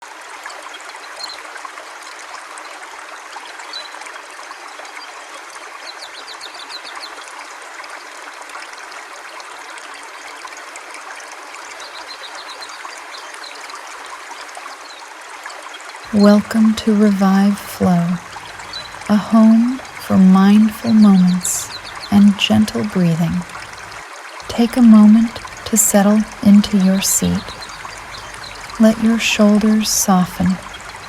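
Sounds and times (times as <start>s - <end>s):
river water flowing: 0.1s - 31.0s.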